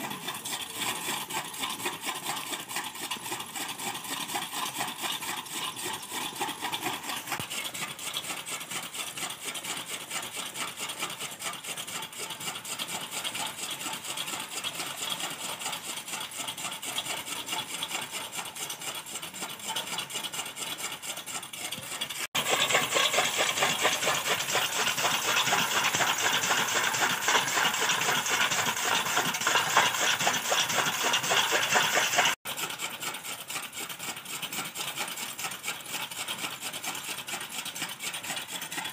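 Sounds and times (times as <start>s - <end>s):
chaff cutter mechanical clatter: 0.0s - 38.9s.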